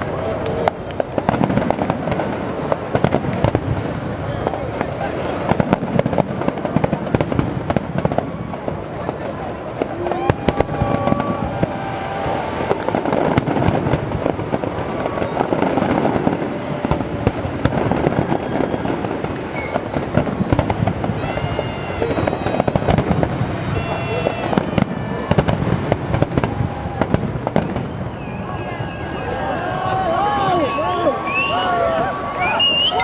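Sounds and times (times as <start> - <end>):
fireworks bursts and crackling: 0.0 - 33.0.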